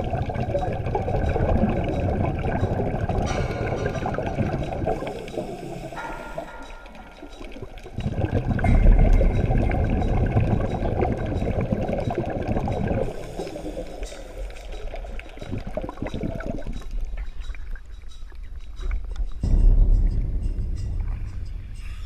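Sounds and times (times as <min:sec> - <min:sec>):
regulator bubbles gurgling underwater: 0:00.0 - 0:18.0.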